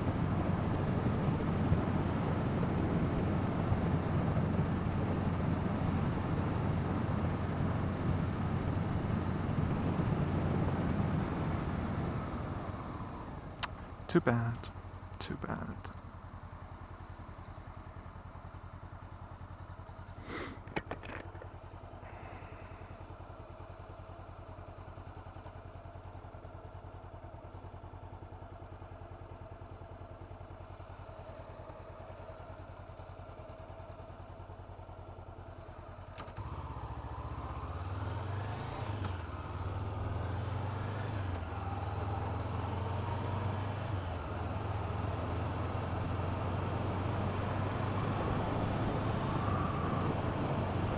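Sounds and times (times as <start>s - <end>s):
motorcycle engine: 0.0s - 14.1s, 16.0s - 50.9s.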